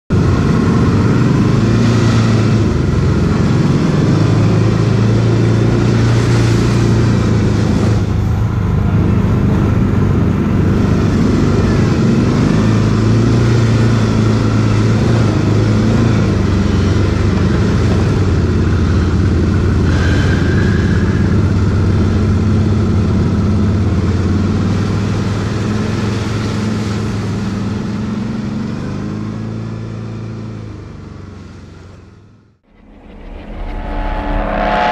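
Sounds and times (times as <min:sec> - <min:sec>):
quad engine running: 0:00.1 - 0:34.9.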